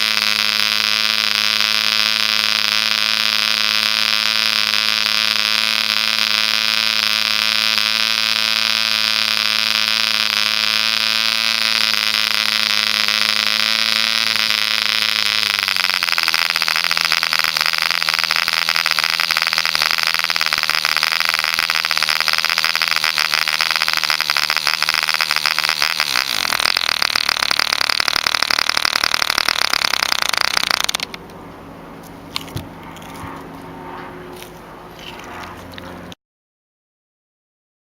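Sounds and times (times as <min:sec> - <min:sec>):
model diesel engine buzzing: 0:00.0 - 0:36.2.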